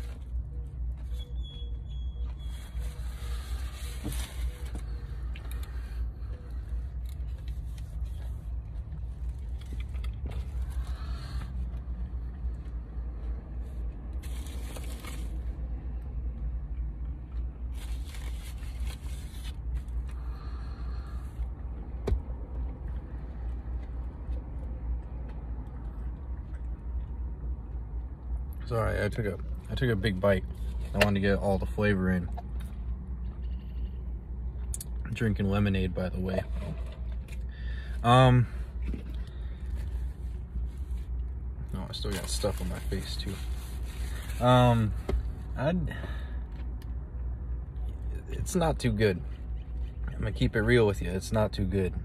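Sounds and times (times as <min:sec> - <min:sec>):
low car interior hum: 0:00.0 - 0:52.0.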